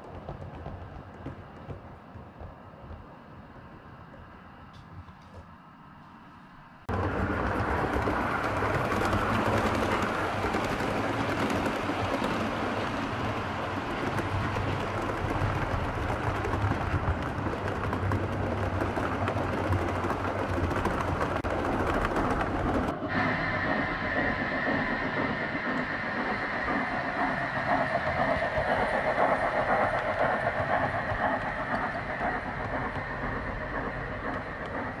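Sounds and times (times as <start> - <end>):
train with steady high tone: 0.0 - 35.0
model train rumbling on track: 6.9 - 35.0
wheels clicking on rails: 6.9 - 35.0.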